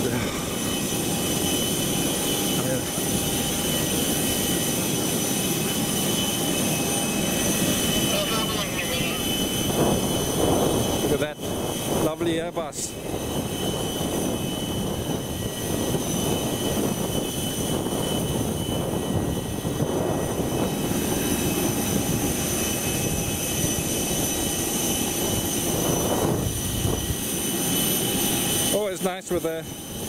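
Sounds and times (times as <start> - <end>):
aircraft auxiliary power unit whine: 0.0 - 30.0.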